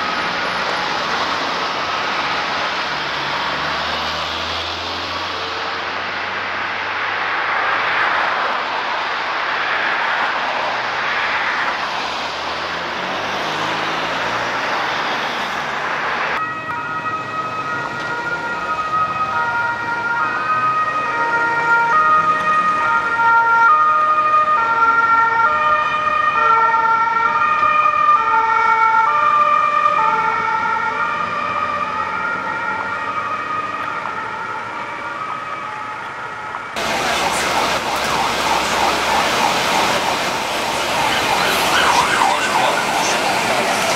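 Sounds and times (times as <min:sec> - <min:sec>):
ambulance siren: 0:00.0 - 0:43.9
road traffic noise: 0:00.0 - 0:43.9.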